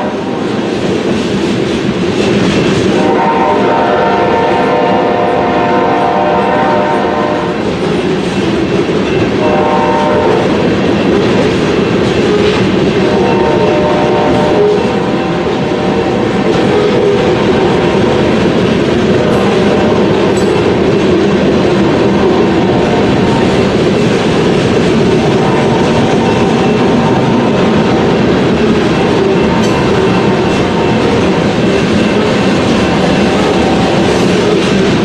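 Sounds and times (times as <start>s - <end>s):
freight train rumbling on rails: 0.0s - 35.0s.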